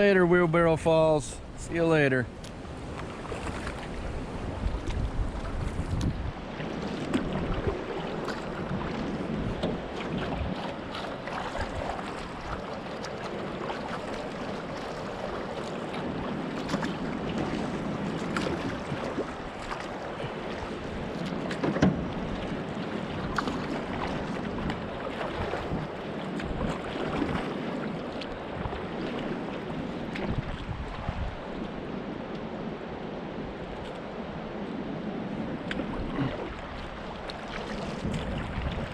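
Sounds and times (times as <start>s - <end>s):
paddle splashes and hull knocks: 0.0s - 38.9s
rushing water: 0.0s - 38.9s
wind on microphone: 0.6s - 12.6s, 14.3s - 38.9s.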